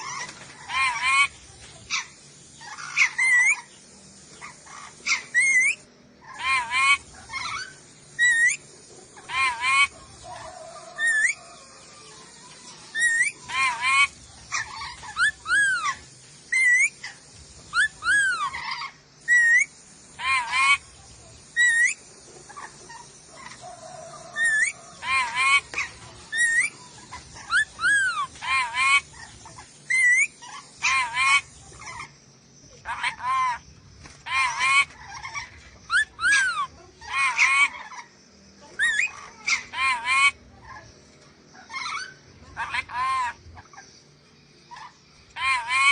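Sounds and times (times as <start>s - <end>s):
parrot calling: 0.0s - 3.7s, 4.4s - 11.8s, 12.4s - 38.2s, 38.8s - 40.8s, 41.5s - 43.8s, 44.7s - 45.9s.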